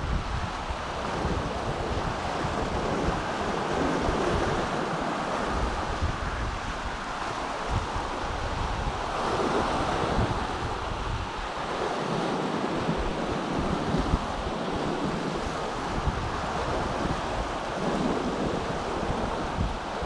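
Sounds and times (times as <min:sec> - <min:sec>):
ocean surf breaking on rocks: 0:00.0 - 0:20.0
wind buffeting microphone: 0:00.0 - 0:20.0.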